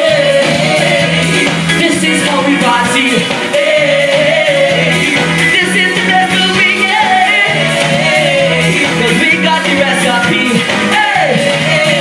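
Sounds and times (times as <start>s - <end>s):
live band playing: 0.0s - 12.0s
man singing into microphone: 0.0s - 12.0s.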